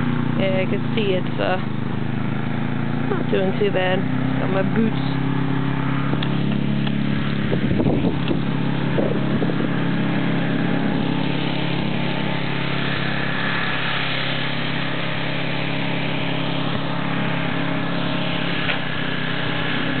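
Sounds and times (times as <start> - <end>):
low motor drone: 0.0 - 20.0.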